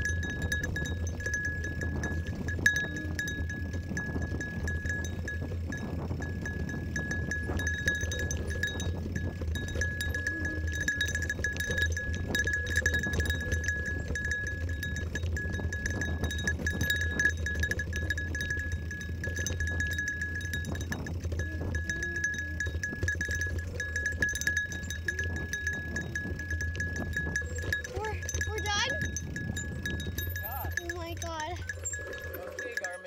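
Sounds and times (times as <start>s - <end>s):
bicycle bell jingling: 0.0s - 33.0s.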